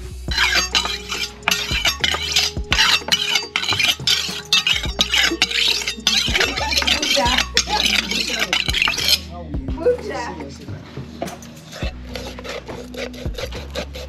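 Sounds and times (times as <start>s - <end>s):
knife rasping on stone: 0.3s - 9.3s, 11.3s - 14.0s.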